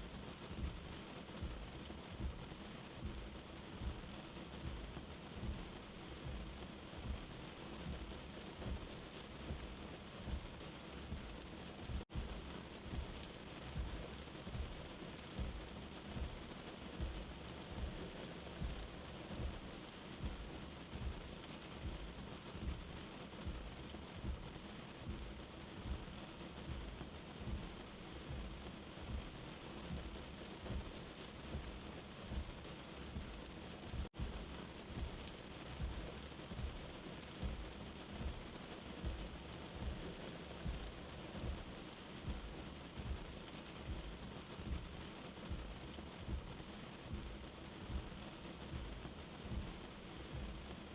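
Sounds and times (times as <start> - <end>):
steady rain hiss: 0.0 - 50.9
soft low thuds: 0.6 - 18.0, 18.6 - 50.7.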